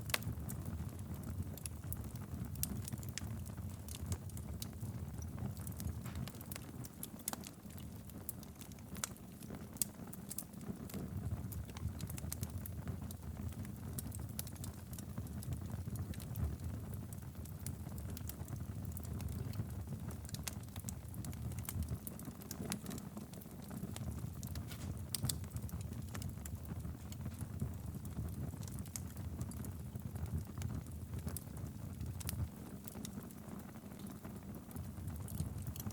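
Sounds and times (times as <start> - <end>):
fire crackling in a fireplace: 0.0 - 35.9.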